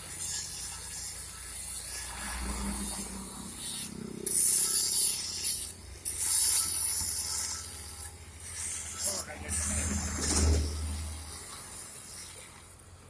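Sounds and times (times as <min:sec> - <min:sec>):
high-pitched hissing scraping: 0:00.0 - 0:12.7.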